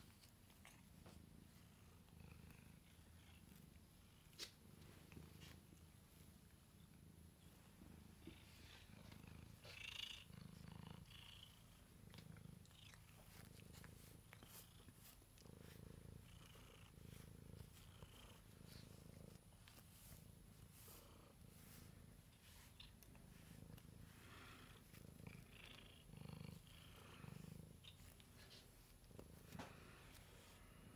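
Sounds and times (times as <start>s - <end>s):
cat purring: 0.0s - 30.9s.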